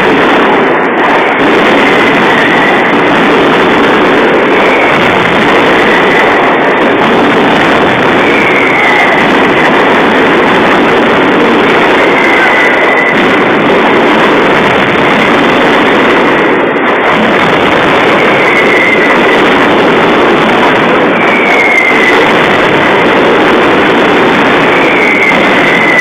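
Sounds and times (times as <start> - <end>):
fireworks explosions roaring: 0.0 - 26.0
whistling fireworks: 0.0 - 26.0.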